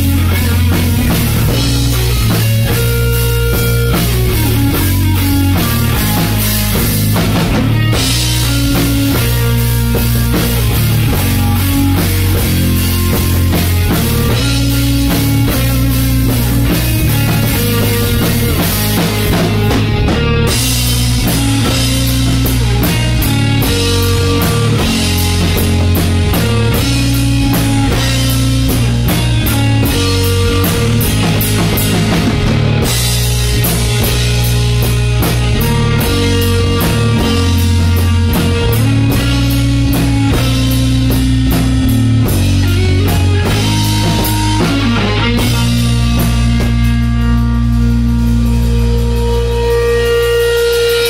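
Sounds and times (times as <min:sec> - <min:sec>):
bass guitar: 0:00.0 - 0:51.0
drum kit with cymbals: 0:00.0 - 0:51.0
electric guitar: 0:00.0 - 0:51.0.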